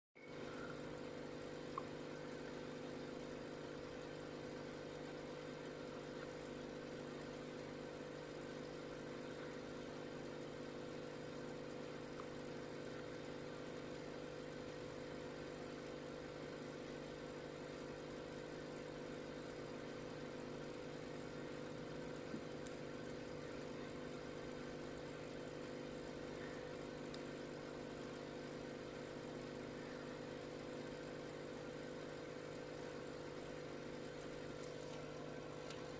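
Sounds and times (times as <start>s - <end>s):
machine hum: 0.2s - 35.9s.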